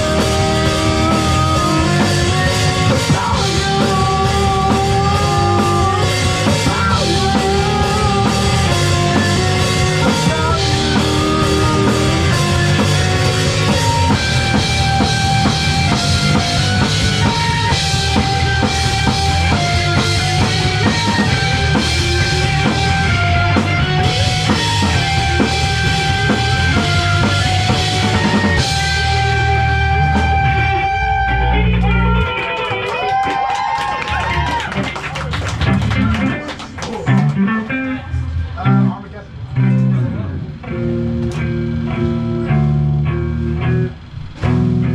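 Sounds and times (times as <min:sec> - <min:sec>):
rock band playing: 0:00.0 - 0:44.9.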